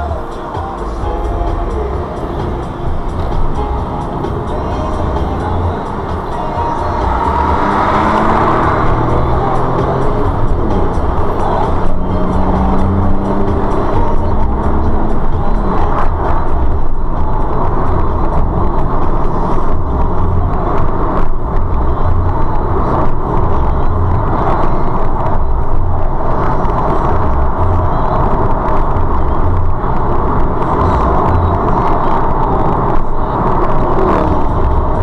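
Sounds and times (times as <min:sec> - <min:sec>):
tyre and engine rumble: 0:00.0 - 0:35.0
wind noise: 0:01.8 - 0:35.0.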